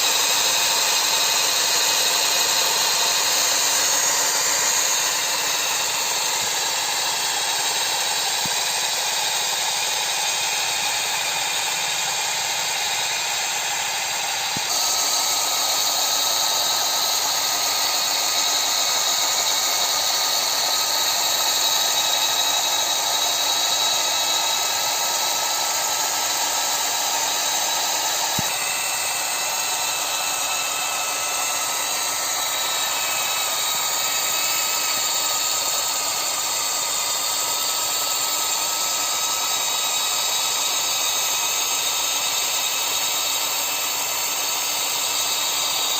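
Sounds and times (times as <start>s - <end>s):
model harvester small motors running: 0.0s - 45.9s.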